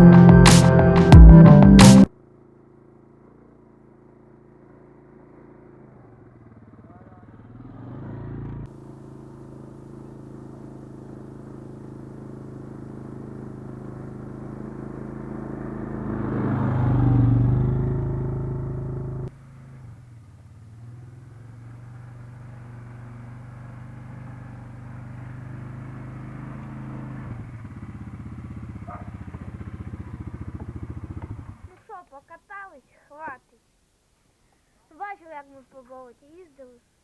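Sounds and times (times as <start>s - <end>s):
quad bike engine running: 0.0s - 32.6s.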